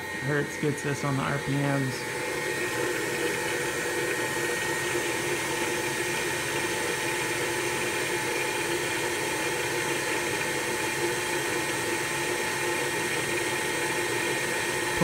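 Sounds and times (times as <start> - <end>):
milling machine motor humming: 0.0 - 12.3.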